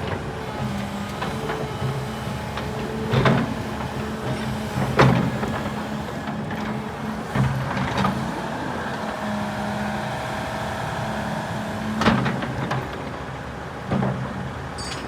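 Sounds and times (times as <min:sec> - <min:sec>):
excavator diesel engine running: 0:00.0 - 0:14.7.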